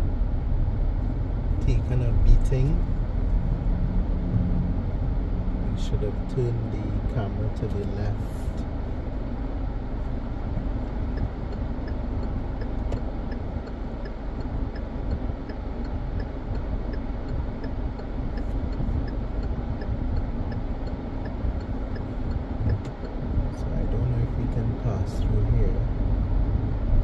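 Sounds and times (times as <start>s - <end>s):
road and engine noise in car: 0.0s - 27.0s
turn signal ticking: 0.0s - 27.0s.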